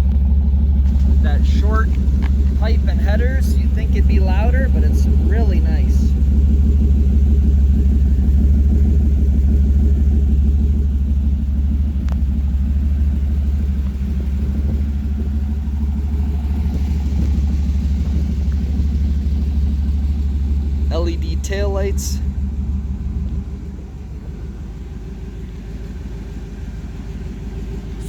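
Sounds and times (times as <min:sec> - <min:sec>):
engine idling deep exhaust rumble: 0:00.0 - 0:28.0.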